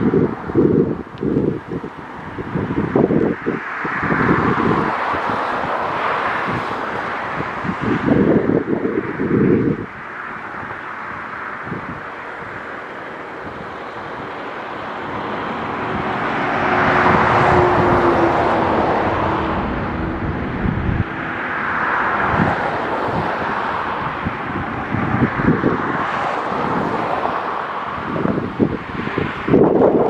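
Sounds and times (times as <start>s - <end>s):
road traffic passing: 0.0s - 30.0s
wind buffeting microphone: 0.0s - 30.0s.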